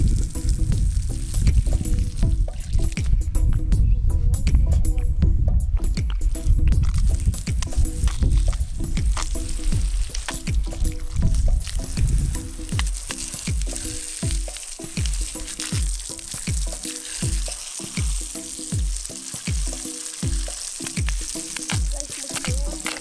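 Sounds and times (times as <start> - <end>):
water spray hissing: 0.0 - 3.4, 6.2 - 23.0
music with kick-drum beat: 0.0 - 23.0.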